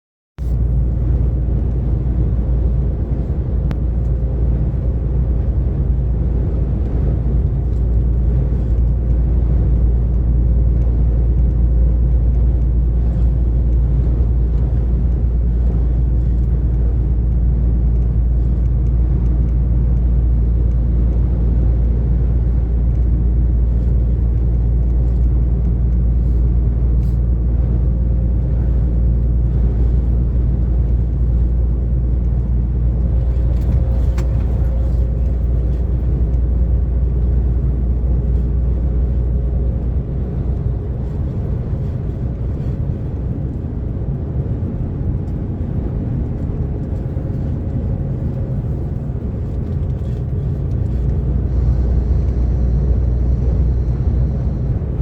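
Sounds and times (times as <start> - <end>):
lorry diesel engine droning: 0.4 - 55.0
road noise: 0.4 - 55.0.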